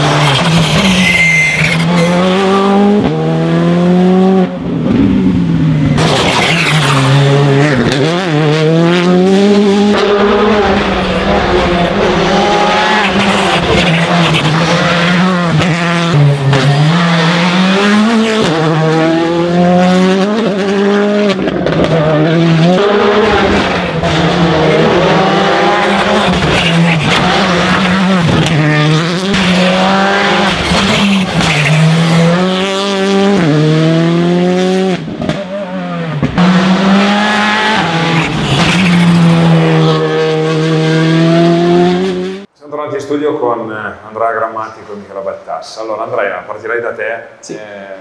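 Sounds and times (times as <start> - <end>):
rally car engine revving: 0.0 - 42.5.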